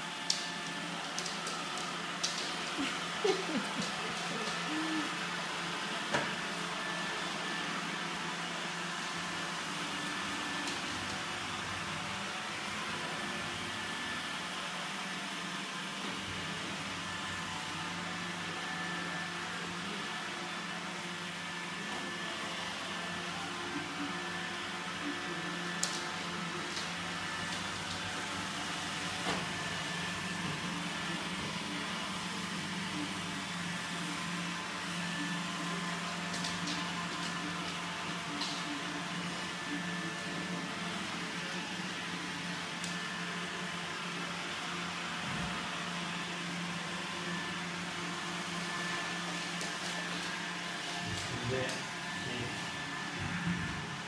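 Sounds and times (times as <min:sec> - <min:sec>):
robot vacuum cleaner running: 0:00.0 - 0:54.0.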